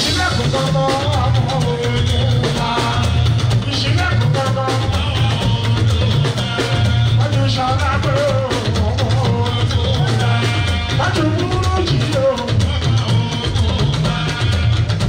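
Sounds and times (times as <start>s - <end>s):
drum kit with busy percussion: 0.0s - 15.0s
electric bass: 0.0s - 15.0s
man singing into a microphone: 0.0s - 15.0s.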